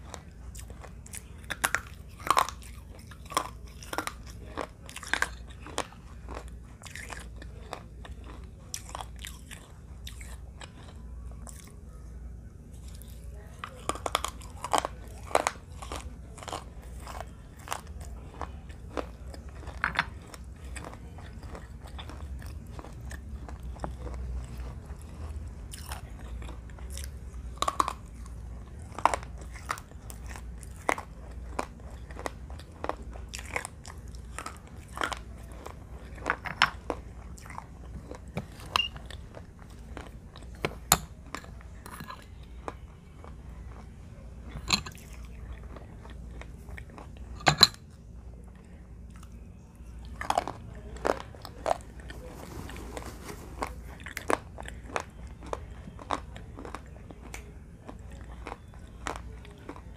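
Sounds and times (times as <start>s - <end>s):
chewing: 0.0s - 59.9s
crunching baked clay: 0.0s - 59.9s
low steady hum: 0.0s - 59.9s.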